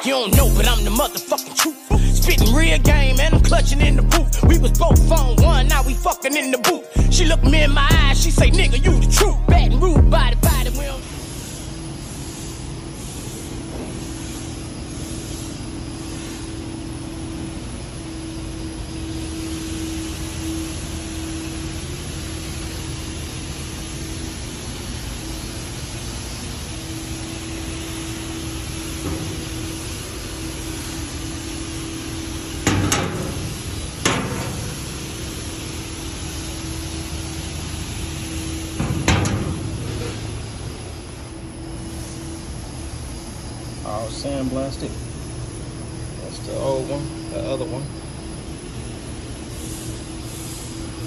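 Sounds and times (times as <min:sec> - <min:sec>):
mechanical drone with hum: 0:00.3 - 0:01.1, 0:01.9 - 0:06.2, 0:07.0 - 0:51.0.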